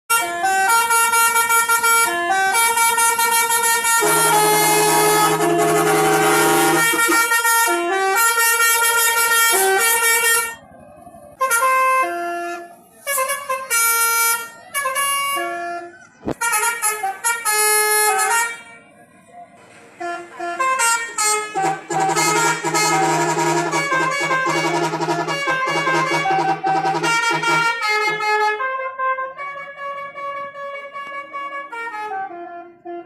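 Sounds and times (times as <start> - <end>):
musical truck horn tune: 0.1 - 10.7, 11.3 - 18.9, 19.9 - 33.0.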